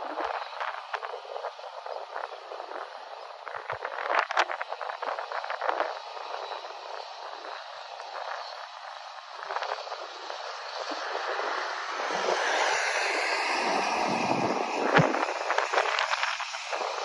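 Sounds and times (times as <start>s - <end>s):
distant diesel locomotives: 0.0s - 17.0s
wind on microphone: 0.0s - 17.0s.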